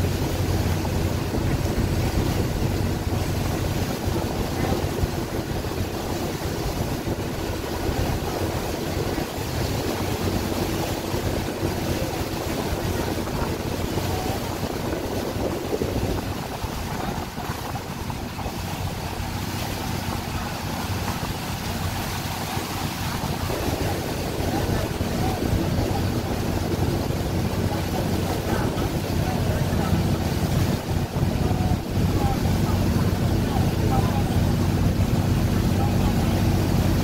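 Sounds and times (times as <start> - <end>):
boat engine droning: 0.0 - 37.0
wind buffeting microphone: 0.0 - 37.0.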